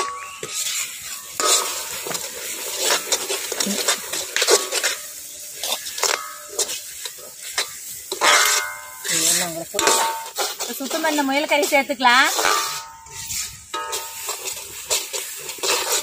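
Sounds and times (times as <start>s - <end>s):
metal ladle scraping a wok: 0.0s - 16.0s
paste sizzling: 0.0s - 16.0s.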